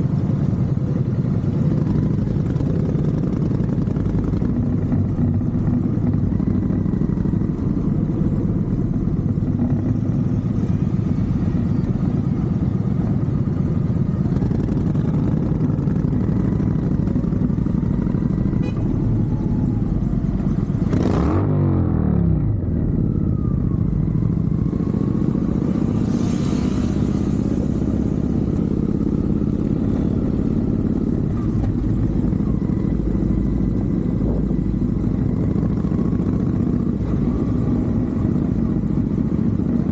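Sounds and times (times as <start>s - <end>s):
motorcycle engines rumbling: 0.0s - 39.9s.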